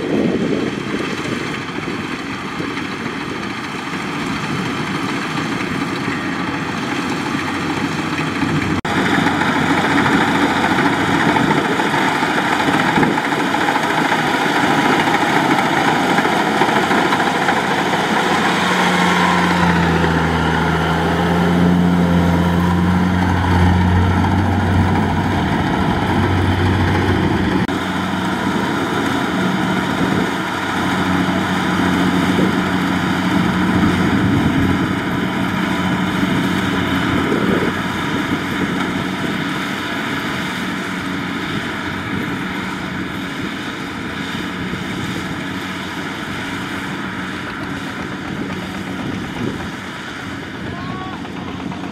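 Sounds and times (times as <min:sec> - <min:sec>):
combine harvester droning: 0:00.0 - 0:51.9.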